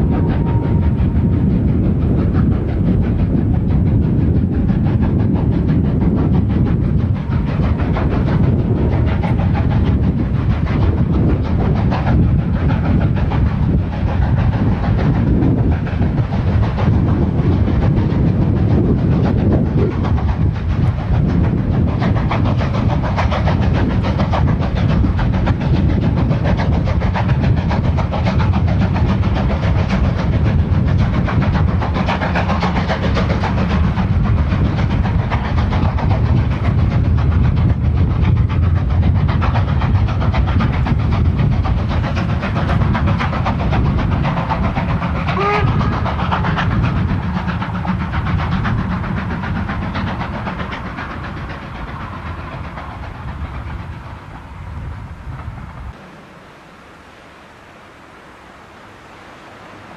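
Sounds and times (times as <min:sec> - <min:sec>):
steam locomotive exhaust beats: 0:00.0 - 0:59.9
train rumble: 0:00.0 - 0:59.9.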